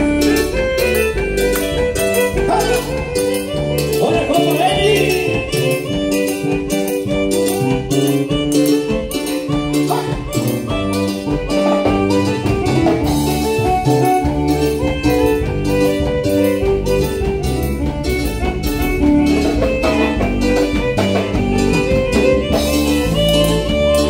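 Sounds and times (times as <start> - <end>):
live band playing dance music: 0.0 - 24.0.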